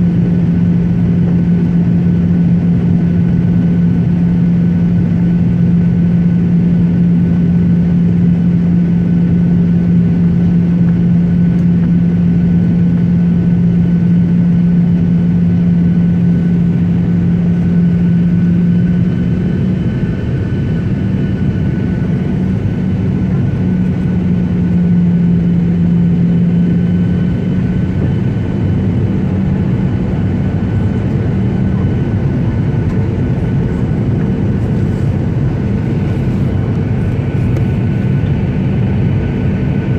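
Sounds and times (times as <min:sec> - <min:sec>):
airliner engines humming: 0:00.0 - 0:39.9
high engine whine: 0:00.0 - 0:39.9.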